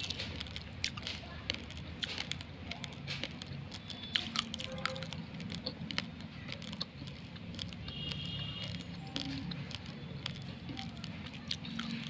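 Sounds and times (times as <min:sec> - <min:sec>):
dry rice grains crunching: 0:00.0 - 0:12.0.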